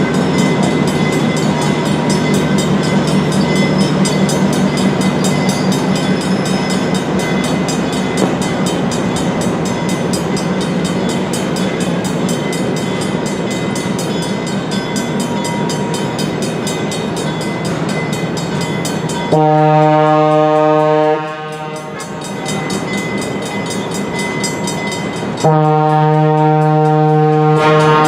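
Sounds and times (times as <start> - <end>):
diesel locomotive running: 0.0 - 28.0.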